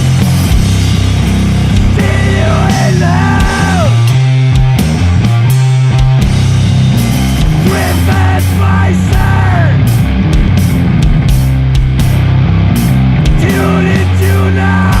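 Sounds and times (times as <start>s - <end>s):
bass guitar low notes: 0.0s - 15.0s
distorted electric guitar: 0.0s - 15.0s
drums: 0.0s - 15.0s.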